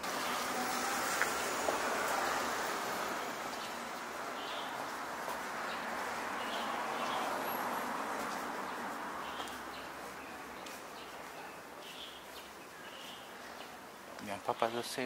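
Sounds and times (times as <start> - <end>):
steady outdoor hiss: 0.0 - 15.0
small birds chirping: 1.3 - 15.0.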